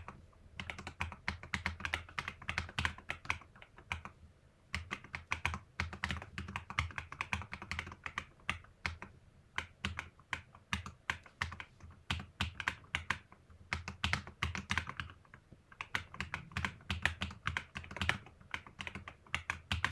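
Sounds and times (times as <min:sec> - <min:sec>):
muted keyboard typing: 0:00.0 - 0:19.9.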